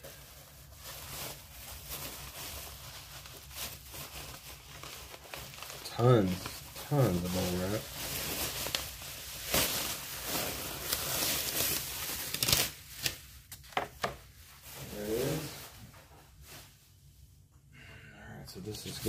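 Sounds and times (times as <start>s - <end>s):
bubble wrap rustling and crinkling: 0.0s - 17.3s, 18.8s - 19.0s.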